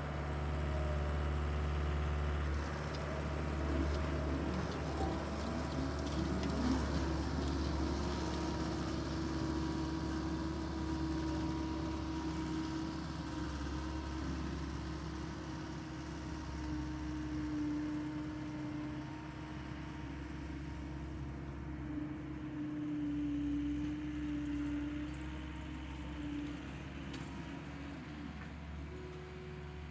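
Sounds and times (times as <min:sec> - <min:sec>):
tractor engine droning: 0:00.0 - 0:29.9.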